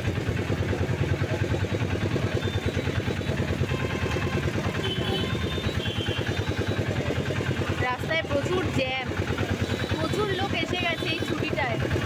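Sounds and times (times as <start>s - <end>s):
small van engine running: 0.0s - 12.0s.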